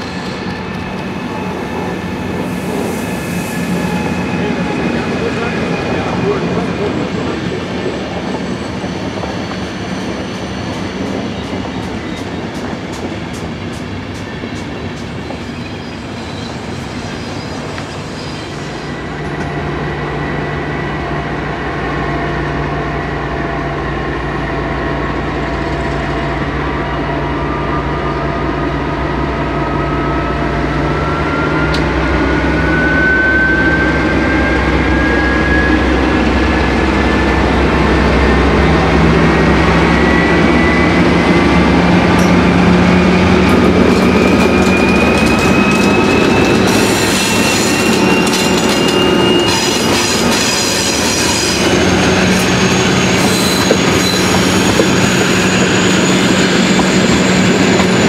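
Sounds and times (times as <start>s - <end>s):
train coaches rolling past: 0.0s - 58.0s.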